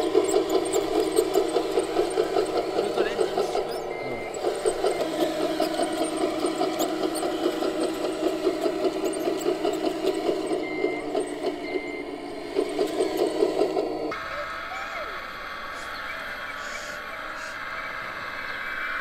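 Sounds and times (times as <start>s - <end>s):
simulated diesel engine chugging: 0.0s - 19.0s.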